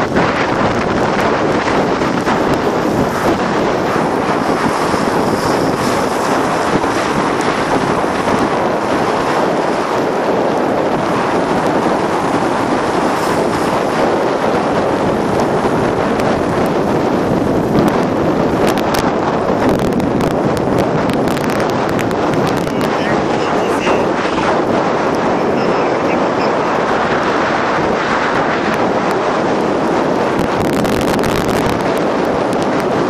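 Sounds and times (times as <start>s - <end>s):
vehicle running noise: 0.0s - 33.0s
wind rushing on microphone: 0.0s - 33.0s.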